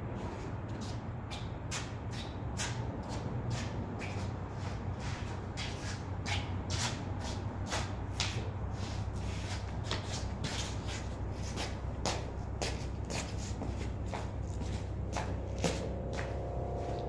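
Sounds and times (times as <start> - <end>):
steady low hum: 0.0 - 17.0
shoes scuffing on paving: 0.2 - 17.0.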